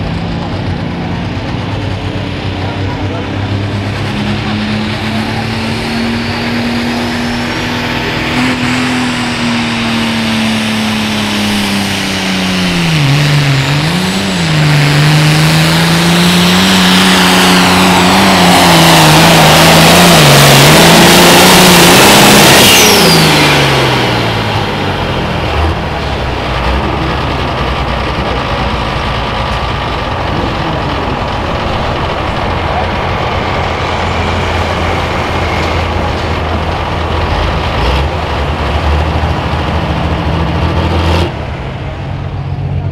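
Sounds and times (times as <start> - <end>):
tractor diesel engine at full throttle: 0.0 - 42.9.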